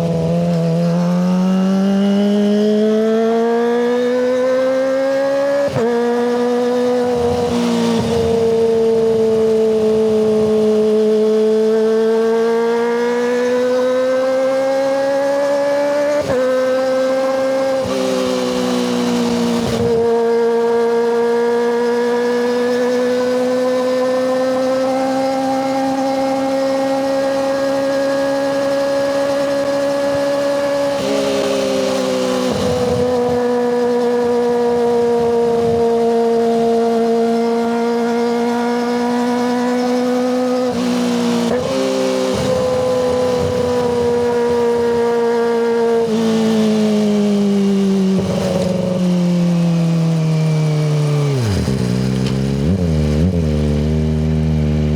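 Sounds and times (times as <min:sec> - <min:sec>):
motorcycle engine revving high: 0:00.0 - 0:54.9.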